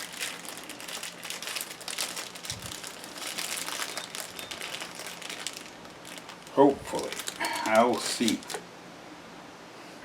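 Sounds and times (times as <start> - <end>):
hands rustling small parts: 0.0 - 8.6.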